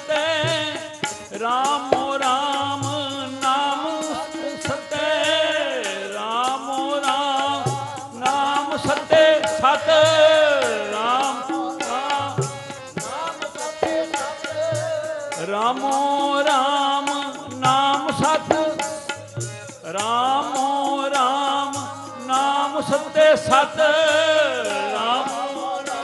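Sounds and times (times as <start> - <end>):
harmonium chords: 0.0 - 26.0
person singing devotional melody: 0.0 - 26.0
tabla drumming: 0.0 - 26.0.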